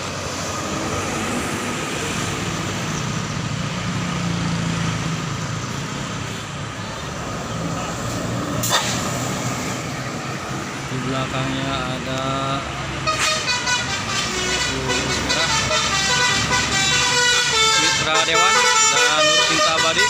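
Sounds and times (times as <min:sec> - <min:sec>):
bus diesel engine passing: 0:00.0 - 0:20.0.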